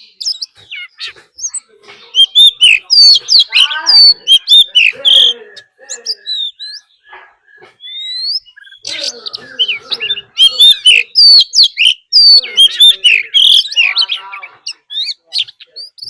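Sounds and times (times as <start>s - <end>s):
magpie-robin singing: 0.0s - 16.0s.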